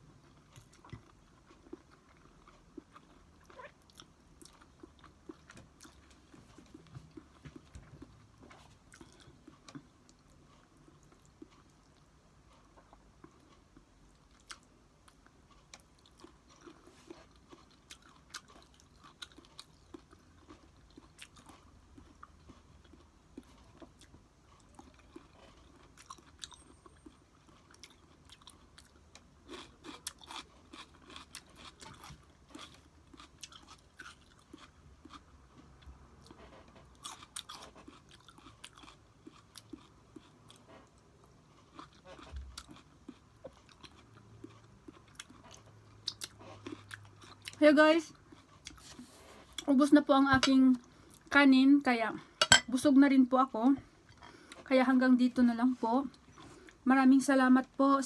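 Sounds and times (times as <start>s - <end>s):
person chewing and crunching: 0.2s - 49.7s.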